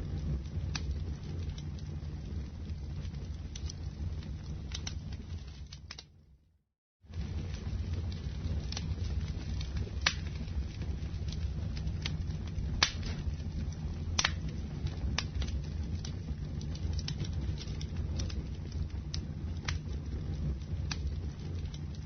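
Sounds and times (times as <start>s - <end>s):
wood fire crackling and popping: 0.0s - 6.4s, 7.1s - 22.0s.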